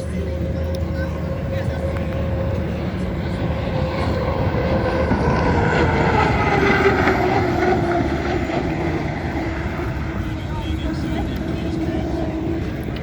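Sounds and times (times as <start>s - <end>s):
boat engine passing at speed: 0.0s - 13.0s.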